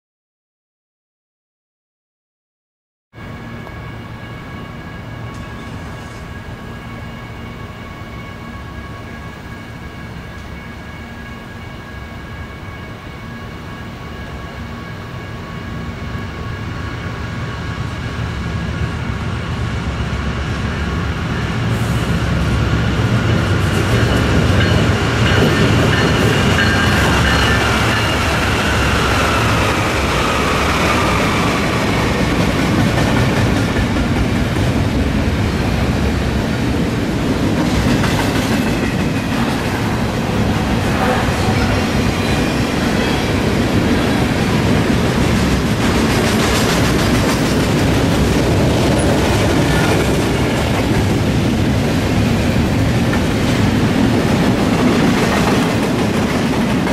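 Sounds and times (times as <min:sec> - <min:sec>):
diesel locomotives passing: 0:03.2 - 0:56.9.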